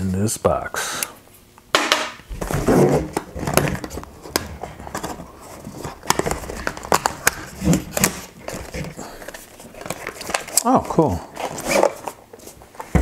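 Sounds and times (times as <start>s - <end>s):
cardboard box rustling: 2.3s - 13.0s.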